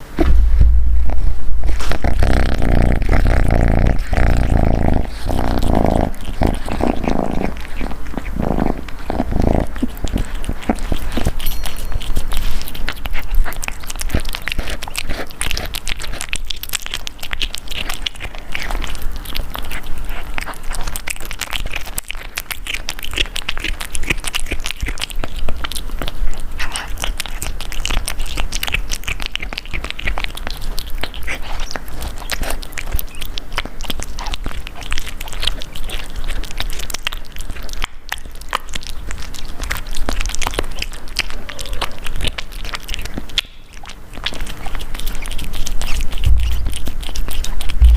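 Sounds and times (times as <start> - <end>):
kitten chewing: 0.0 - 47.9.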